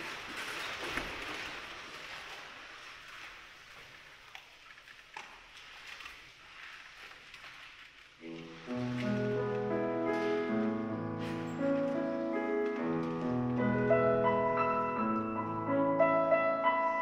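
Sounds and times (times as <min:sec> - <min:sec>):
small clicks and rustles: 0:00.0 - 0:13.9.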